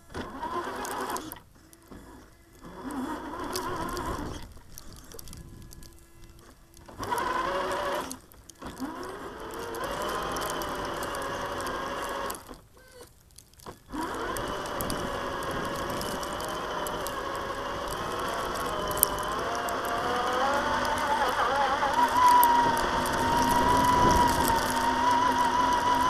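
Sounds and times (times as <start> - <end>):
rc truck motor whining: 0.0 - 13.1, 13.7 - 26.0.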